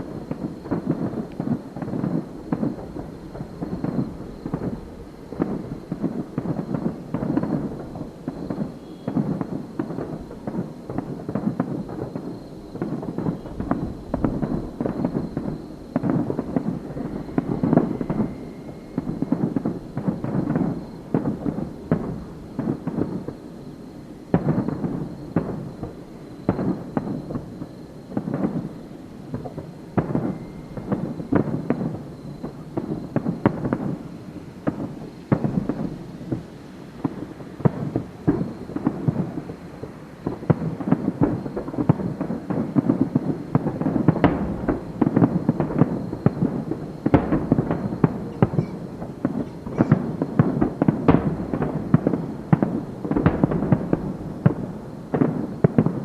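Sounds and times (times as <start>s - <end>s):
aerial firework shells bursting: 0.0s - 23.4s, 24.3s - 56.0s.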